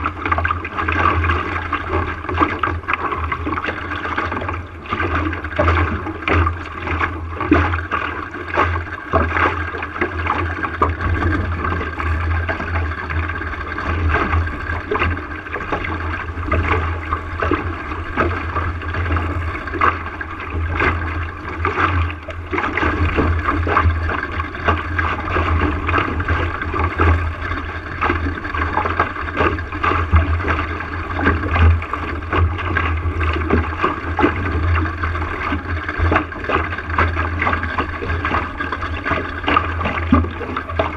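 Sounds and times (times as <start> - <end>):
steady low rumble: 0.0 - 40.9
water splashing against hull: 0.0 - 40.9.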